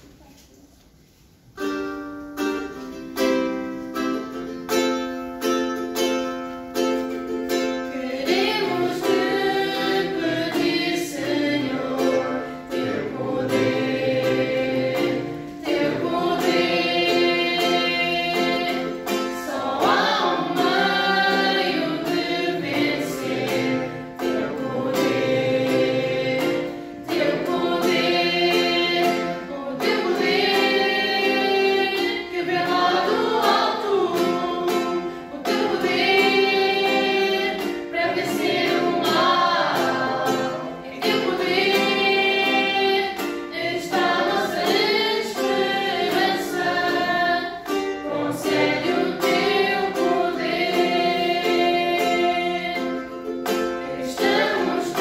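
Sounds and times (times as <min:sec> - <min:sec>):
strummed ukulele: 0:01.0 - 0:55.0
young voices singing a hymn: 0:07.7 - 0:55.0.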